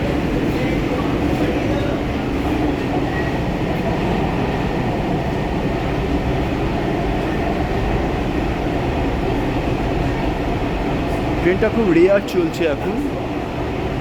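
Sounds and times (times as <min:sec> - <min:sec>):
metro train running: 0:00.0 - 0:14.0.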